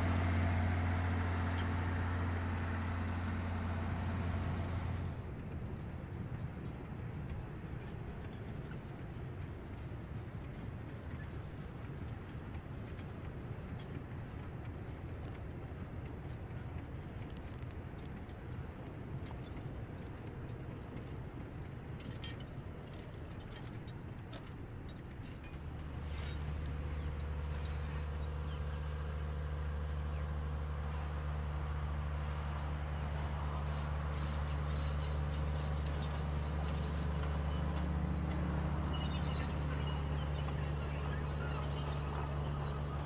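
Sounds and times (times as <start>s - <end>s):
diesel locomotive engine hum: 0.0s - 43.0s.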